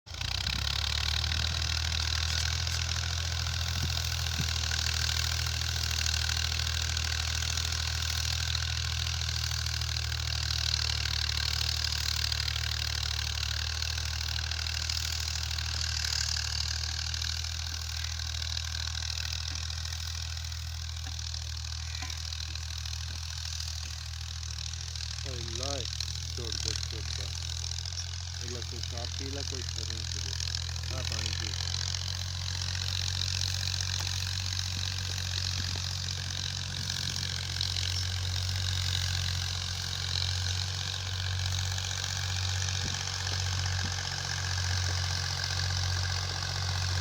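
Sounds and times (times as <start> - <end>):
tractor diesel engine idling: 0.1 - 47.0.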